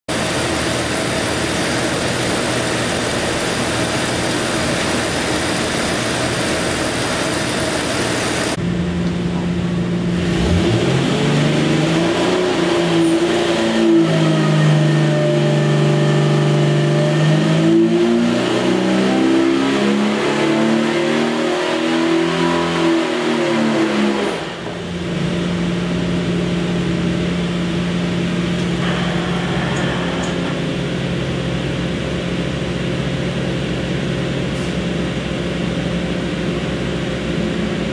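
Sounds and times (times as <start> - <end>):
engine revving on dyno: 0.1 - 8.6, 10.0 - 37.9.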